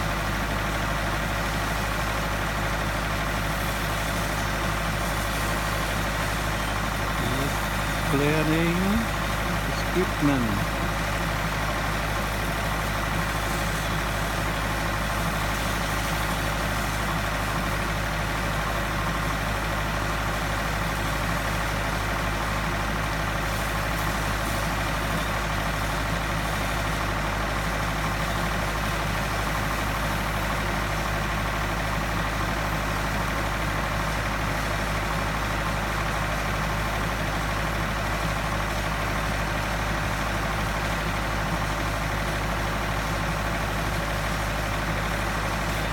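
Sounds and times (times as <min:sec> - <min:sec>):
pump engine droning: 0:00.0 - 0:45.9.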